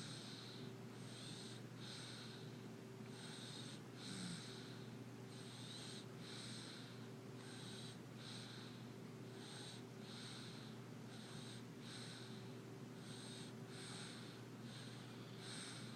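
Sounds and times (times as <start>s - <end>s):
baby snoring breaths: 0.0s - 15.9s.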